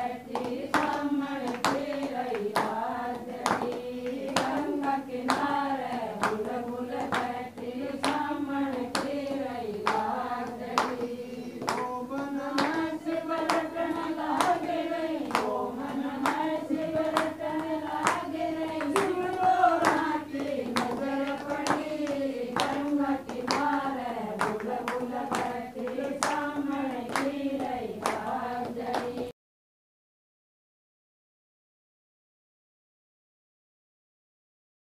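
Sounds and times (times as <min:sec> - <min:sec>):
women singing in unison: 0:00.0 - 0:29.3
hands clapping in time: 0:00.2 - 0:29.3.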